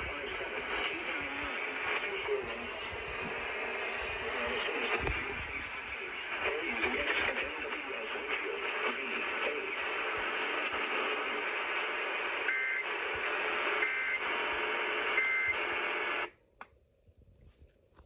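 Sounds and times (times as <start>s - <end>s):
radio static: 0.0s - 16.3s.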